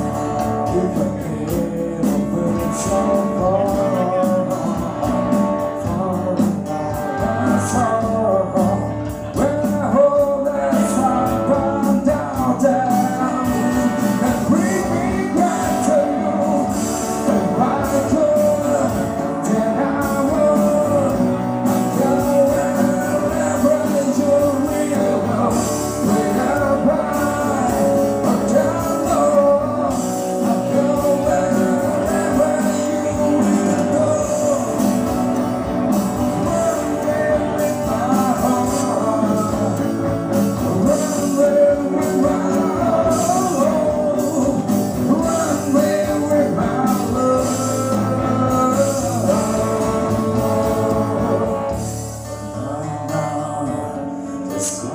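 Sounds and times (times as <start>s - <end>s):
acoustic and electric guitar: 0.0s - 54.9s
man singing into a microphone: 0.0s - 54.9s.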